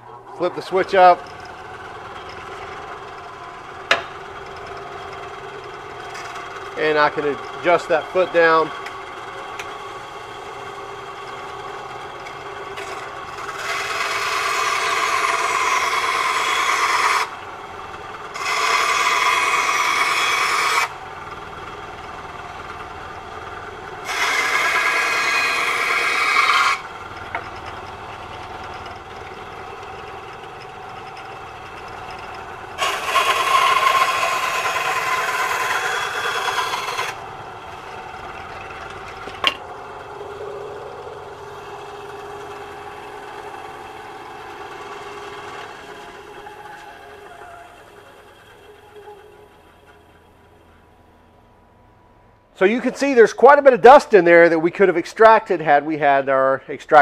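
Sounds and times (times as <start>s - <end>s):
band saw cutting wood: 0.0s - 50.6s, 52.6s - 55.8s
band saw motor hum: 0.0s - 56.2s.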